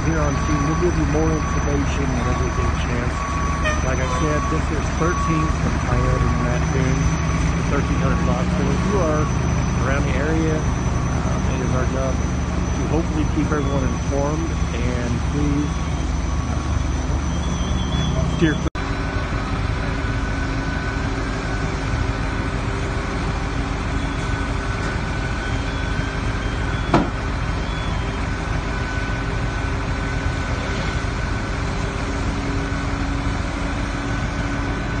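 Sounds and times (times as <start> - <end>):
fire engine motors droning: 0.0 - 35.0.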